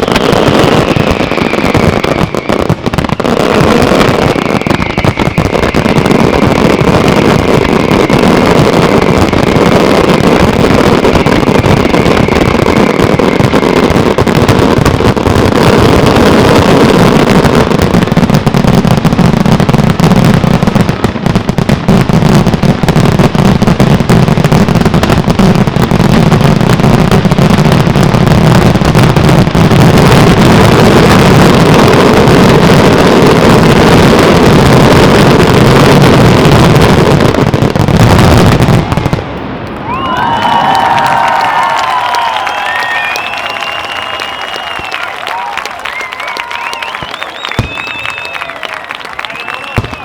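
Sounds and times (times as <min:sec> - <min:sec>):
fireworks bursting: 0:00.0 - 0:50.0
fireworks crackle: 0:00.0 - 0:50.0.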